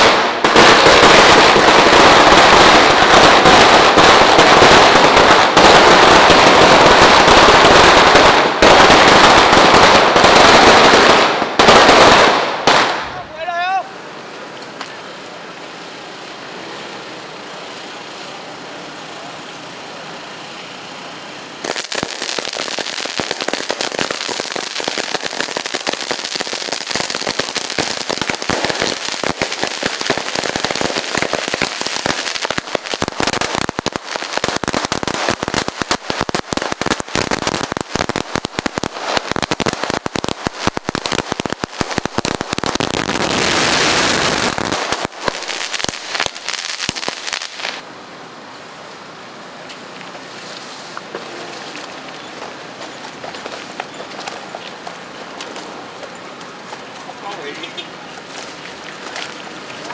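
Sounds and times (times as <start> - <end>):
firecrackers crackling and banging: 0.0 - 17.1, 21.4 - 47.8, 49.6 - 59.9.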